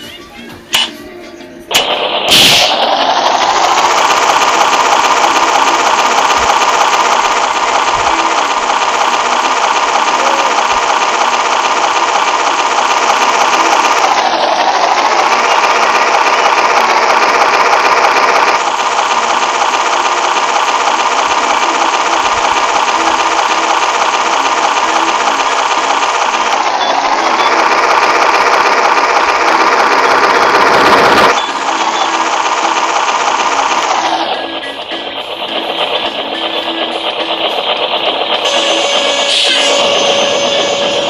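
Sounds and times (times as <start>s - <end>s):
toy electric motor whirring: 2.6s - 41.0s.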